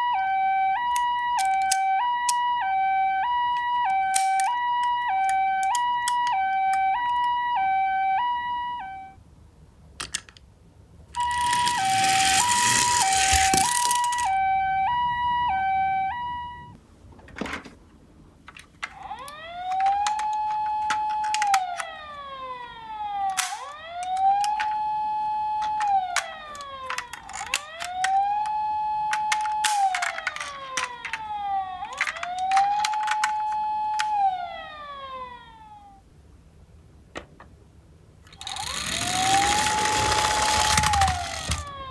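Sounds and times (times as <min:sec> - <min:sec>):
toy two-tone electronic siren: 0:00.0 - 0:09.2, 0:11.2 - 0:16.8, 0:18.8 - 0:36.0, 0:38.3 - 0:41.9
toy wailing siren: 0:00.0 - 0:09.2, 0:11.2 - 0:16.8, 0:18.8 - 0:36.0, 0:38.3 - 0:41.9.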